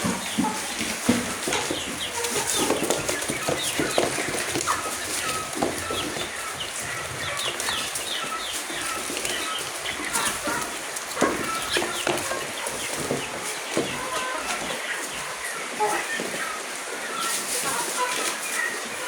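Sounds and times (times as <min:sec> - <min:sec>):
chickens clucking and cheeping: 0:00.0 - 0:19.0.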